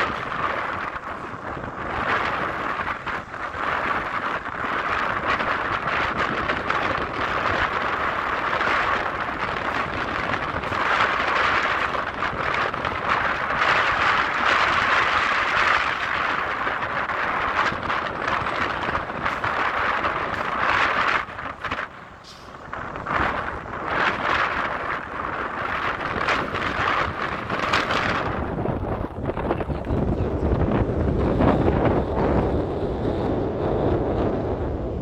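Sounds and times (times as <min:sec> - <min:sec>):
metro train rolling: 0:00.0 - 0:35.0.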